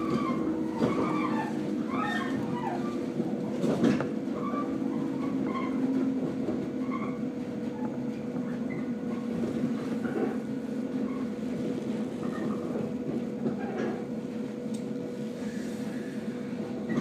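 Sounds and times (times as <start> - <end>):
train motors and wheels humming: 0.0 - 17.0.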